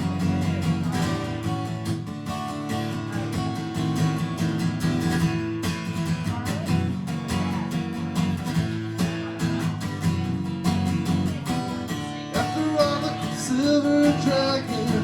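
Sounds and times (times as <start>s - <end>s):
guitar strummed and picked: 0.0s - 15.0s.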